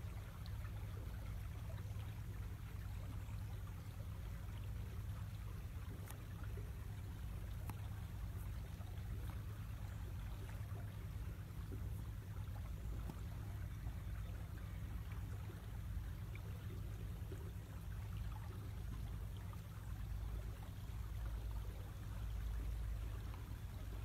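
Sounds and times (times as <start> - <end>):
steady low rumble: 0.0 - 24.0
water trickling along a hull: 0.0 - 24.0.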